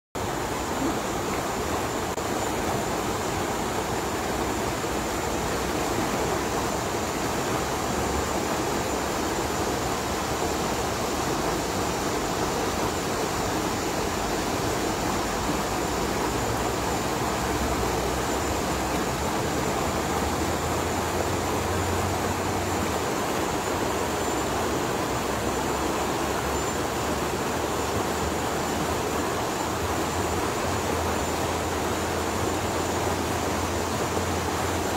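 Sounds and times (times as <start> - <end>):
stream rushing over rocks: 0.2 - 34.9.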